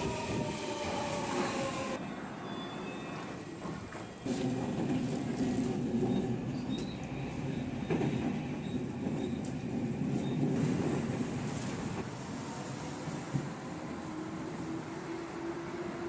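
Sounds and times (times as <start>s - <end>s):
electric train rolling past: 0.0s - 16.0s.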